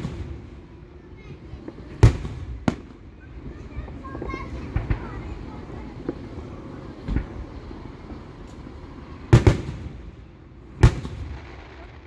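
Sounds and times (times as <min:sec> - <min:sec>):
fireworks exploding: 0:00.0 - 0:12.0
low steady rumble: 0:00.0 - 0:12.0.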